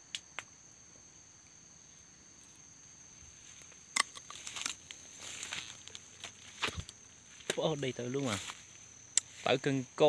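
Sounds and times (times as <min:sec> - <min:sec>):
high insect drone: 0:00.0 - 0:10.0
crackling and rustling in undergrowth: 0:01.4 - 0:10.0.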